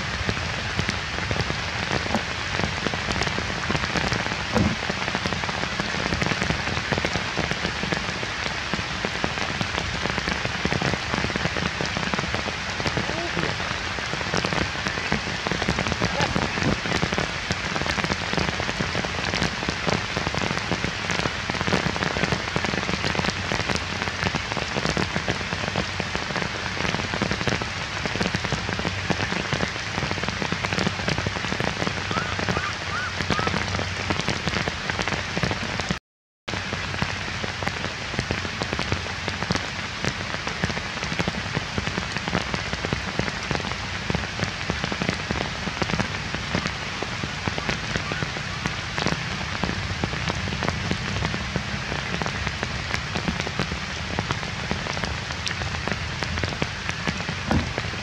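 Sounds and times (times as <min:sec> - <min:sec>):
heavy rain on wet ground: 0:00.0 - 0:58.0.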